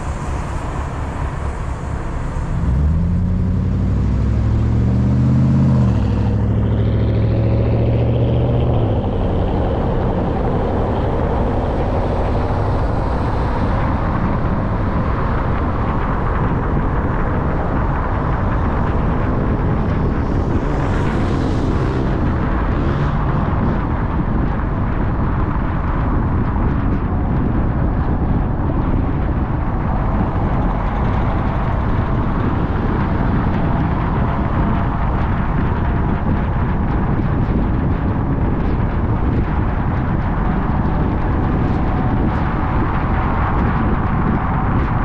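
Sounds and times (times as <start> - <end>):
car engine accelerating: 0.0 - 45.0
tyre and road noise: 0.0 - 45.0.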